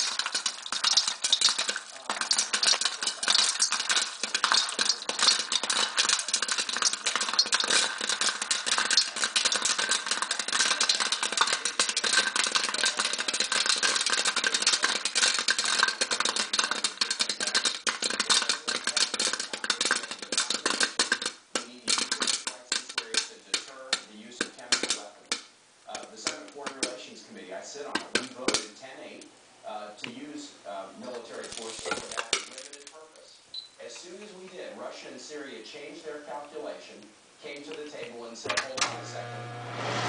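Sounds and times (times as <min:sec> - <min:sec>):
popcorn popping in a pan: 0:00.0 - 0:29.3, 0:30.8 - 0:33.2, 0:37.0 - 0:40.0.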